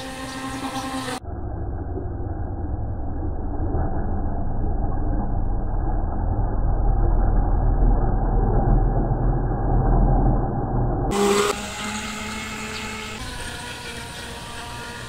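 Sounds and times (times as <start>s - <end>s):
rc boat motor rumbling: 0.0s - 15.0s.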